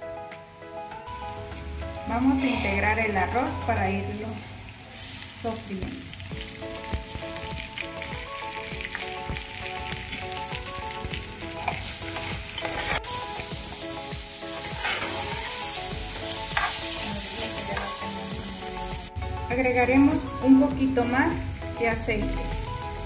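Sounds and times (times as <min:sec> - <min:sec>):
rice sizzling in oil: 0:01.1 - 0:23.0.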